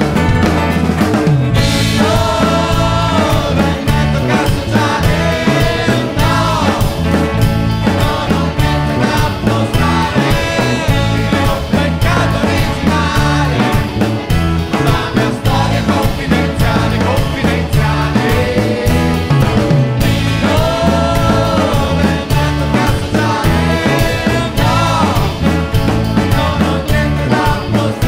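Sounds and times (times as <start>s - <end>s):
acoustic guitar: 0.0s - 28.0s
drum kit with cymbals: 0.0s - 28.0s
person singing: 1.6s - 28.0s.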